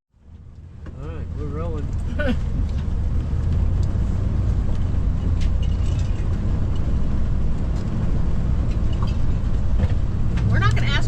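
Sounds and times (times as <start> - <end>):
tyres on road: 0.1 - 11.0
vehicle engine rumble: 0.1 - 11.0.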